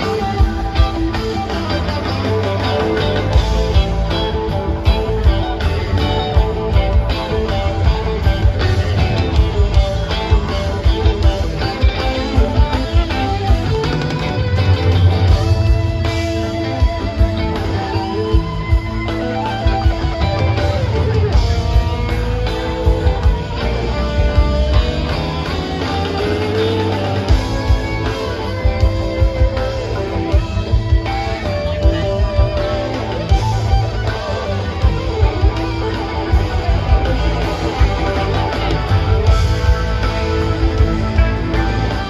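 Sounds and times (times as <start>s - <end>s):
bass guitar: 0.0s - 42.0s
electric guitar lines: 0.0s - 42.0s
steady drum beat: 0.0s - 42.0s.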